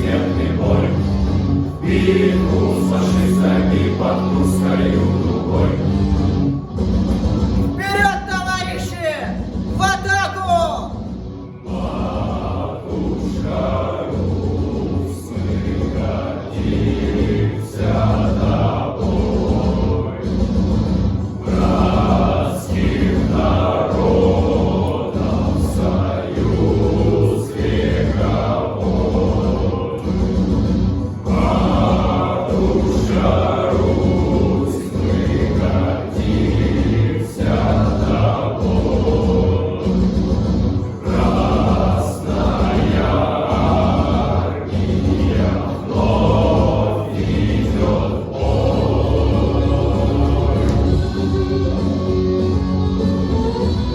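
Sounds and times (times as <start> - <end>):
male choir singing: 0.0 - 6.8, 7.6 - 53.9
low accompaniment: 0.0 - 53.9.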